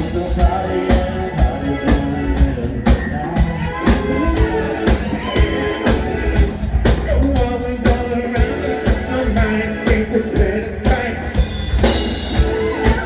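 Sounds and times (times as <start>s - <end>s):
bass guitar: 0.0s - 13.0s
drums beating: 0.0s - 13.0s
man singing: 0.0s - 13.0s.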